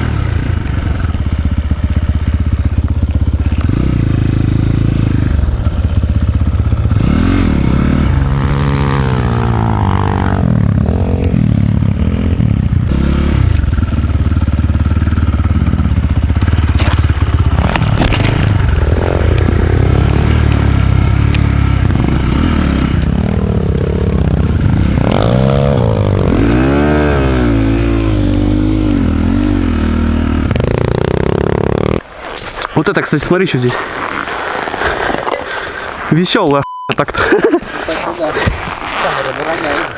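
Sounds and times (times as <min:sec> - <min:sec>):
dirt bike engine revving: 0:00.0 - 0:32.4.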